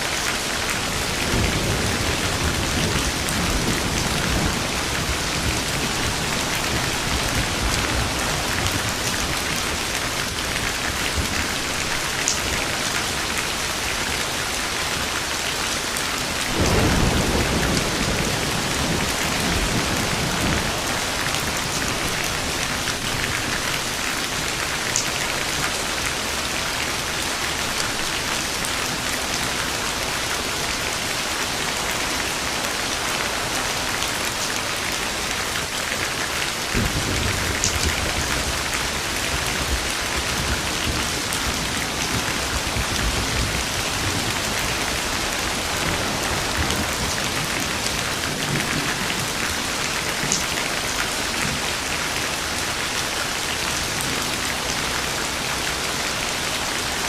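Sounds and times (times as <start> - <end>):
steady rain falling: 0.0 - 57.0
thunder rumbling: 0.6 - 31.3, 36.6 - 51.9.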